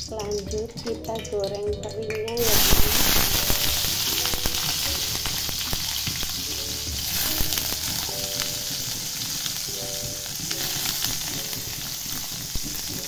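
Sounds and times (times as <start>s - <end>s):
small fish frying in oil: 2.3s - 13.0s.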